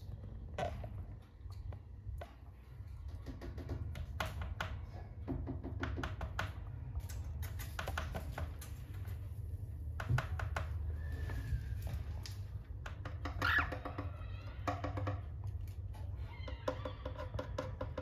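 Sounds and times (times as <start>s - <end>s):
birds clicking and tapping in cage: 0.5s - 18.0s.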